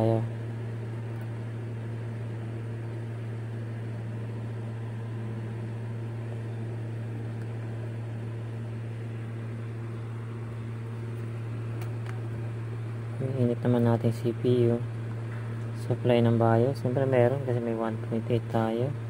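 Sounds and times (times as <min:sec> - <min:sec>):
computer fans humming: 0:00.0 - 0:19.0.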